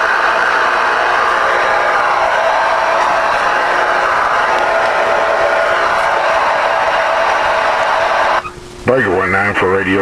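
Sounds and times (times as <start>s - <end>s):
loud radio static: 0.0s - 10.0s.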